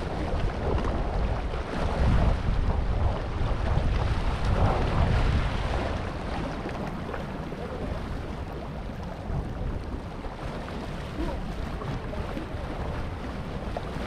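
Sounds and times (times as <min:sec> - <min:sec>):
waves splashing over rocks: 0:00.0 - 0:14.0
wind buffeting microphone: 0:00.0 - 0:14.0.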